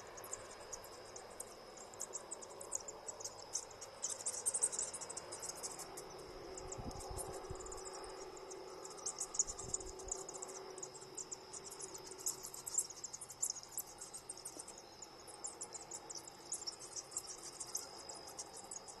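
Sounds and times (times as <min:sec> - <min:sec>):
bats chittering: 0:00.0 - 0:19.0
steady high whine: 0:00.0 - 0:19.0.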